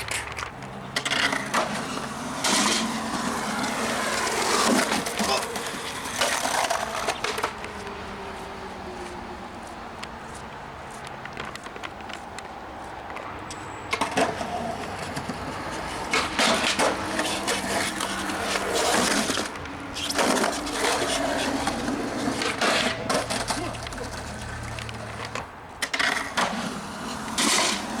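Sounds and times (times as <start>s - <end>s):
skateboard rolling and clacking: 0.0s - 8.6s, 13.1s - 28.0s.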